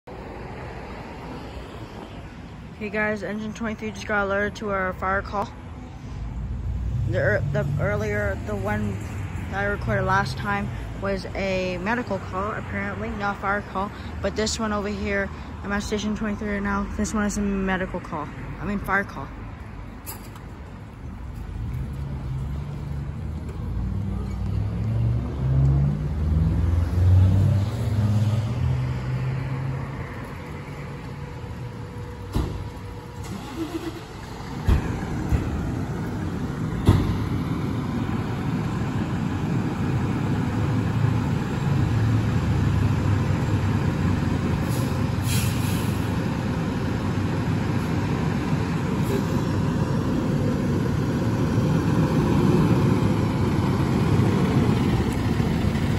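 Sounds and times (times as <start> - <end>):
diesel engine rumble: 0.1 - 55.9.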